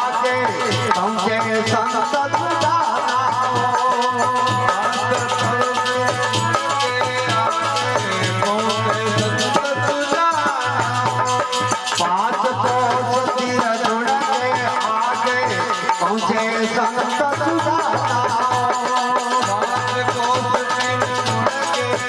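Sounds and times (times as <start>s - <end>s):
devotional song melody: 0.0s - 22.0s
steady percussion: 0.0s - 22.0s.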